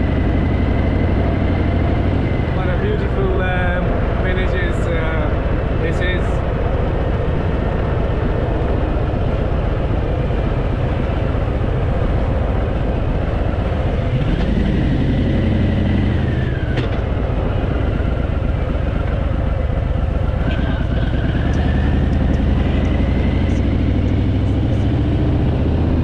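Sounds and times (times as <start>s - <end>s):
motorcycle engine running: 0.0s - 4.5s, 5.1s - 26.0s.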